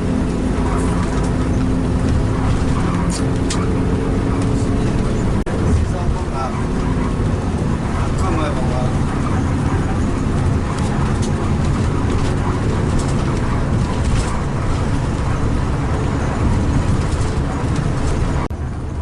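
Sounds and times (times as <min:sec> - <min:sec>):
coach engine and road rumble: 0:00.0 - 0:19.0.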